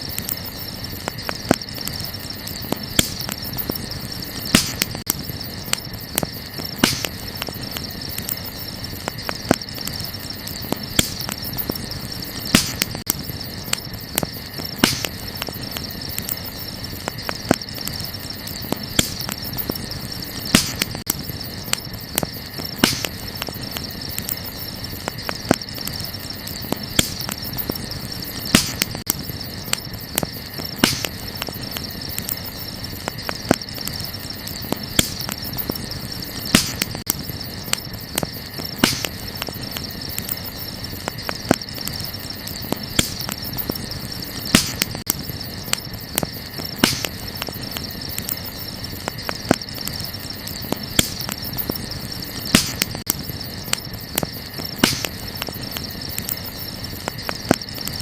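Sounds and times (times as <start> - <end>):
campfire crackling and popping: 0.0 - 58.0
night insects chirring: 0.0 - 58.0.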